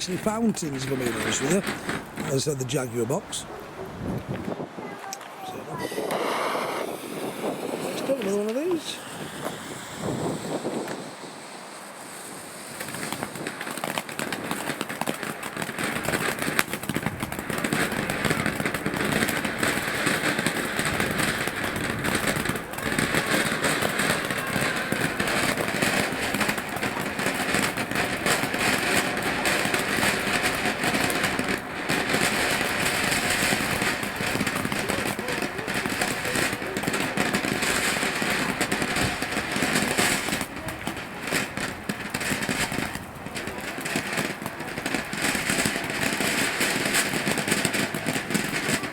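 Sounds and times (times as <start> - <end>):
firework fountain hissing and crackling: 0.0 - 48.9.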